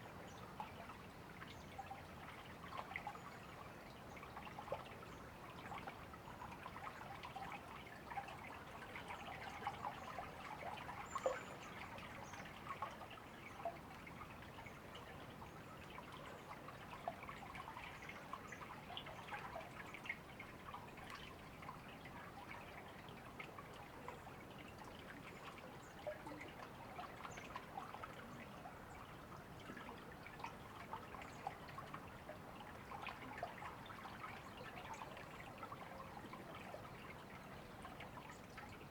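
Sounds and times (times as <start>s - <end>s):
river water trickling: 0.0s - 38.9s.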